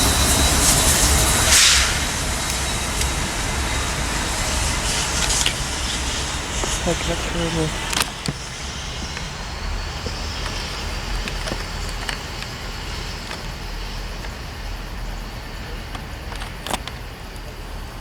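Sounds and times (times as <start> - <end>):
train rolling past: 0.0 - 18.0
train wheels clacking: 0.0 - 18.0.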